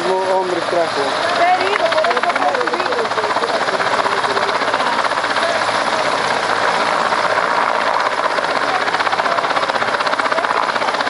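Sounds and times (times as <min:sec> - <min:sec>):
helicopter running close: 0:00.0 - 0:11.0.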